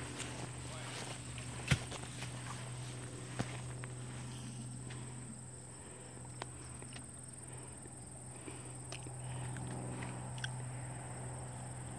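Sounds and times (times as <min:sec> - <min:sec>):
insects trilling: 0:00.0 - 0:11.9.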